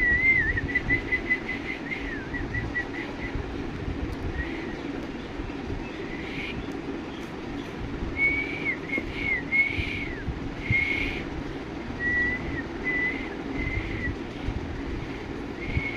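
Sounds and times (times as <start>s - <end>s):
low background hum: 0.0s - 15.9s.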